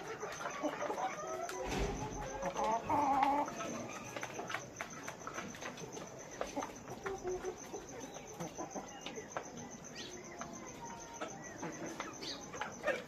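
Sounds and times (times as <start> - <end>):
chickens clucking: 0.0 - 13.0
chickens pecking: 0.0 - 13.0.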